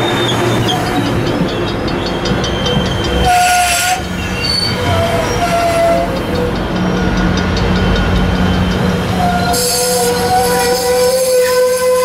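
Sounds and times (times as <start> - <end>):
train wheels rumbling on rails: 0.0 - 12.0
wheel squeals: 0.0 - 12.0.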